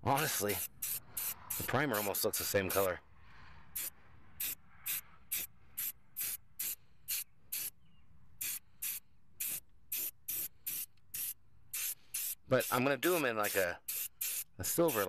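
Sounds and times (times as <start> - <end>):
spray can hissing in spurts: 0.2 - 2.9, 3.8 - 7.8, 8.4 - 15.0.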